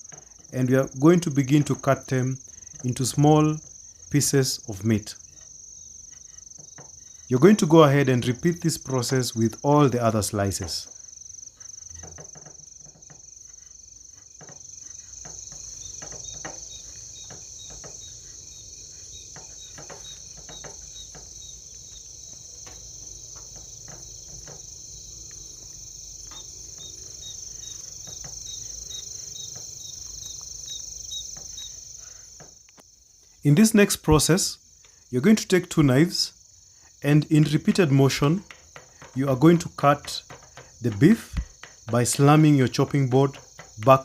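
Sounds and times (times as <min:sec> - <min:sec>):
cricket trill: 0:00.0 - 0:44.0.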